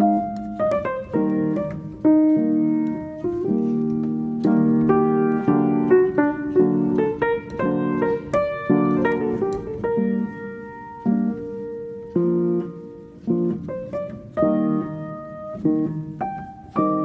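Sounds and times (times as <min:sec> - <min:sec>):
piano melody over chords: 0:00.0 - 0:17.0.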